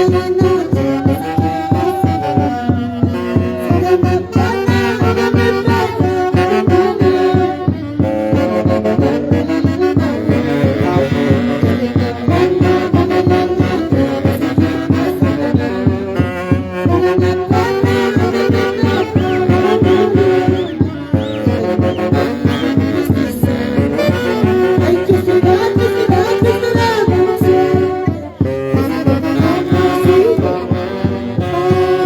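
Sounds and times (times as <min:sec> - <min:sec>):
live dance band with horns: 0:00.0 - 0:32.0.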